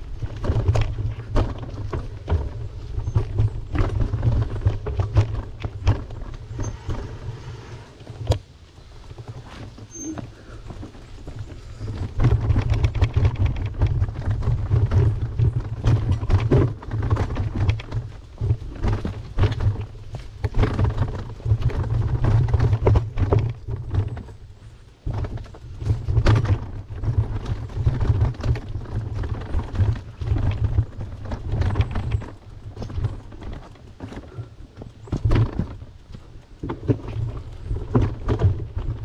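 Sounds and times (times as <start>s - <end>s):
bike knocks and rattles: 0.0s - 39.0s
wind buffeting microphone: 0.0s - 39.0s.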